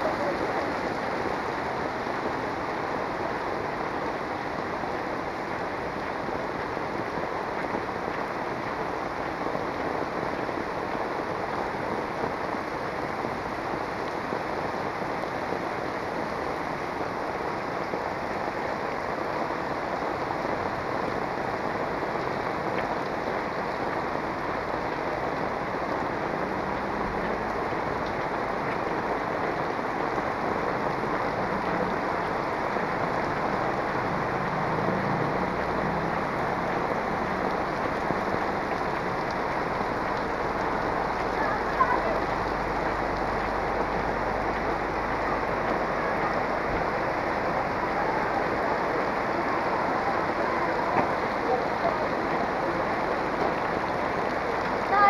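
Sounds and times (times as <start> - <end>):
heavy rain on a street: 0.0 - 55.0.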